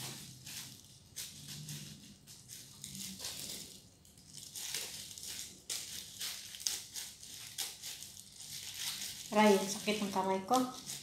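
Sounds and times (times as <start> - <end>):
leafy greens rustling: 0.0 - 11.0
plastic gloves crinkling: 0.0 - 11.0.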